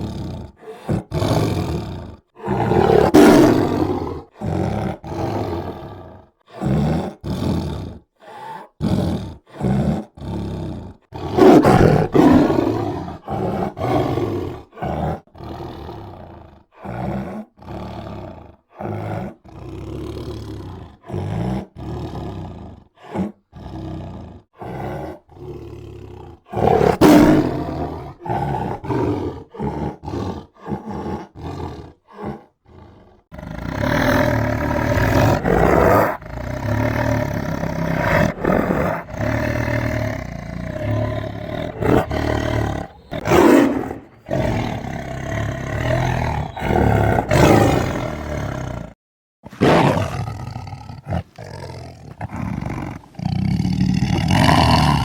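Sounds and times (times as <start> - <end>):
tiger roaring: 0.0 - 55.0.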